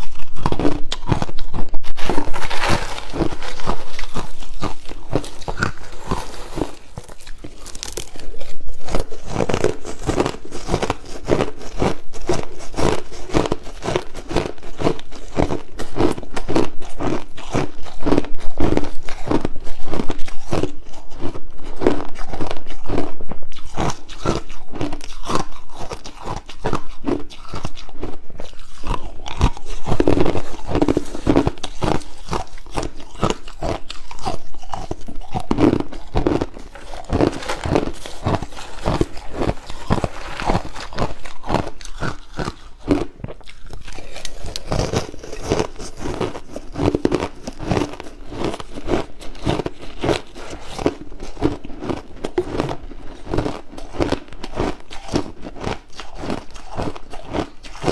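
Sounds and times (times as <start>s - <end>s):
crushed ice crunching: 2.0s - 23.0s, 28.5s - 57.9s.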